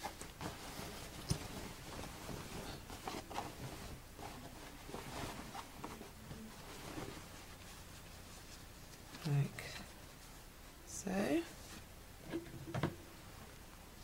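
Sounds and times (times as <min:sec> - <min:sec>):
fabric rustling: 0:00.0 - 0:13.5.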